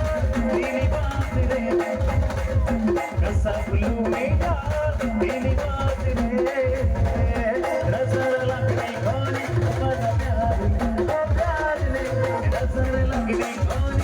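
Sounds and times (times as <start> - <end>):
driving drum beat: 0.0 - 14.0
live band instrumental music: 0.0 - 14.0.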